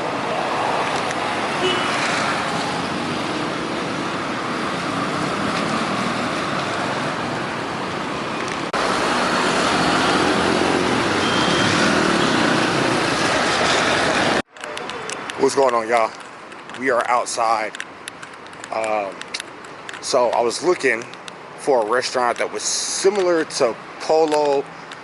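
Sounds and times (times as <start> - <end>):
passing cars: 0.0 - 25.0.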